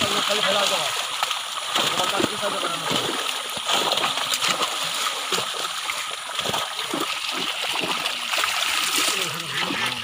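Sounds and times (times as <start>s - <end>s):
fish splashing in shallow water: 0.0s - 10.0s.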